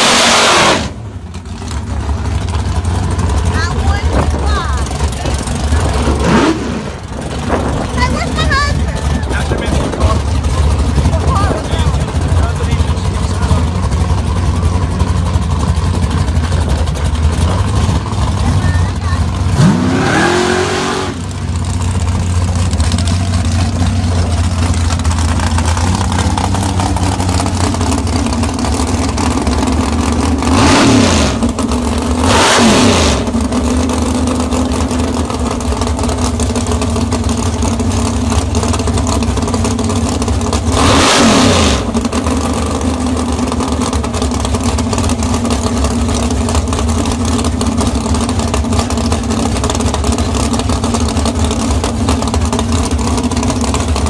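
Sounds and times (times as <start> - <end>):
engine surges falling in pitch: 0.0 - 54.0
race car engine idling: 0.0 - 54.0.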